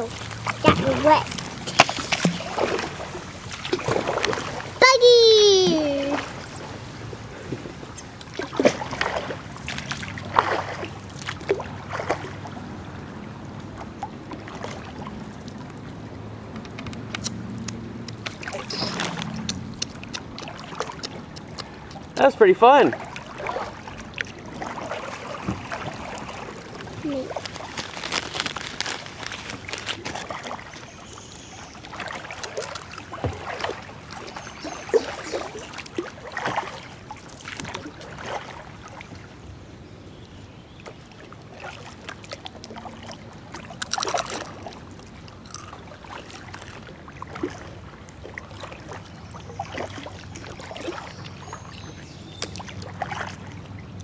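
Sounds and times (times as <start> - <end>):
water splashing and dripping: 0.0 - 39.3, 40.8 - 54.0
paddle strokes in river water: 0.0 - 54.0.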